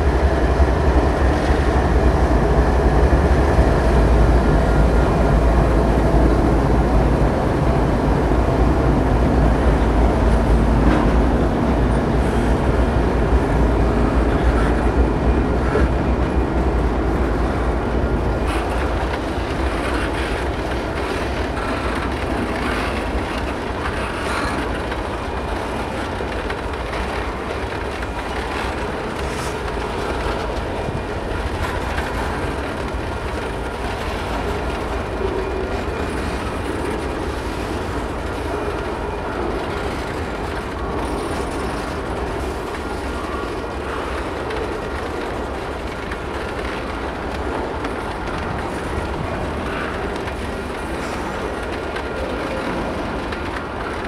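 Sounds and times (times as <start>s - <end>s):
diesel locomotive engine rumble: 0.0s - 54.0s
train cars rolling: 0.0s - 54.0s
wheels clicking on rails: 0.0s - 54.0s.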